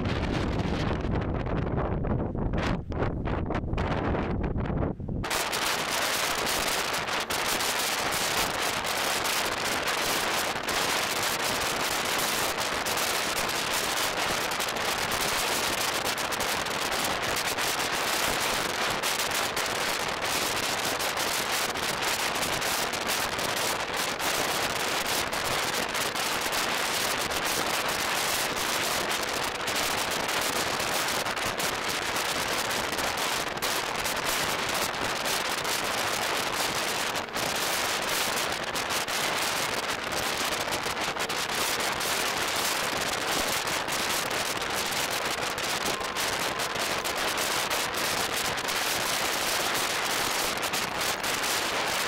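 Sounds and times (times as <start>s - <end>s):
wind blowing across microphone: 0.0s - 52.0s.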